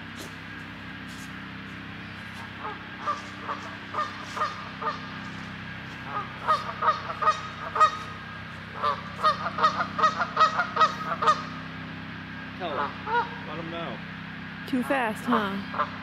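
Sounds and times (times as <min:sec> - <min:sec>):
geese honking: 0:00.0 - 0:11.8, 0:12.6 - 0:13.7, 0:15.2 - 0:16.0.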